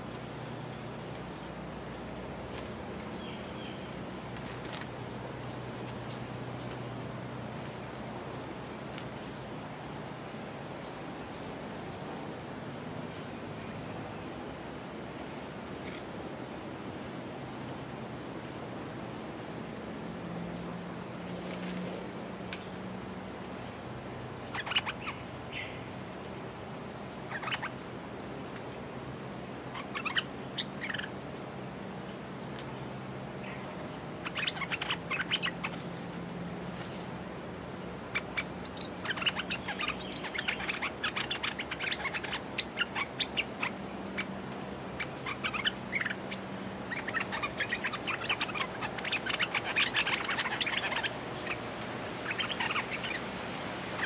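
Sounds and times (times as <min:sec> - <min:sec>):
birds chattering chirps: 0:00.0 - 0:54.0.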